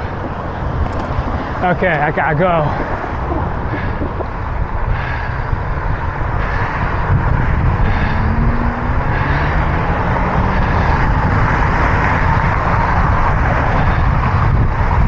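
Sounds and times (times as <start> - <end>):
car traffic passing: 0.0 - 15.0
wind rushing over microphone: 0.0 - 15.0.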